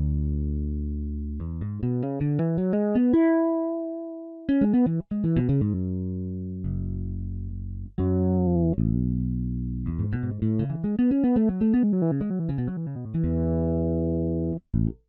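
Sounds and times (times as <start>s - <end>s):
fretless electric bass: 0.0s - 15.0s.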